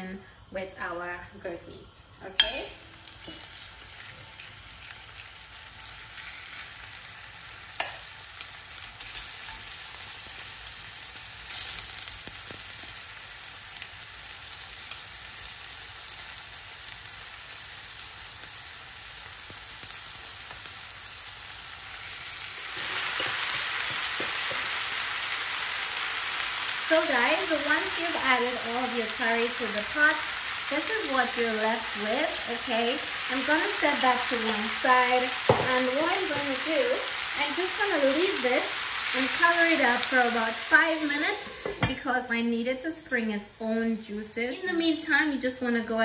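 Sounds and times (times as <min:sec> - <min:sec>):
meat sizzling in hot oil: 0:02.4 - 0:42.1.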